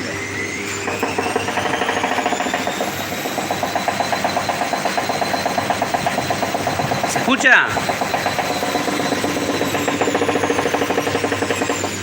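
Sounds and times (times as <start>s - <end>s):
fast rhythmic mechanical noise: 0.0s - 12.0s
washing machine motor whine: 0.0s - 12.0s.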